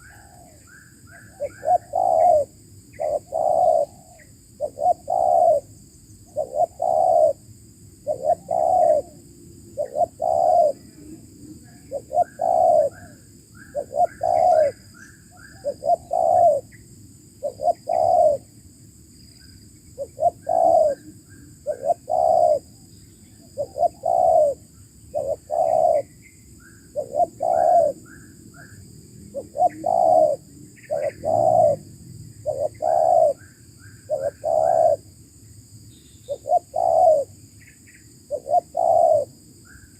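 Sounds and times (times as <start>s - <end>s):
dove cooing: 0.0s - 7.4s, 8.0s - 9.2s, 9.8s - 16.8s, 17.4s - 18.5s, 20.0s - 26.1s, 26.8s - 35.1s, 36.3s - 37.4s, 38.3s - 39.4s.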